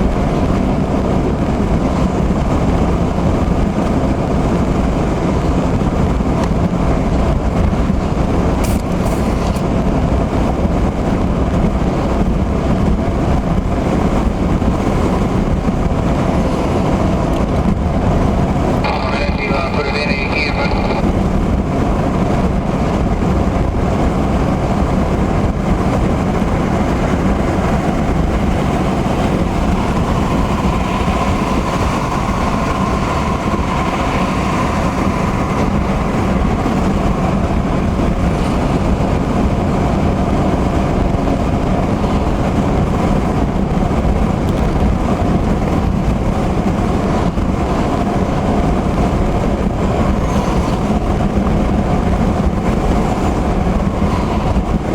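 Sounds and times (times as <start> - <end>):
tyres on wet road: 0.0 - 54.9.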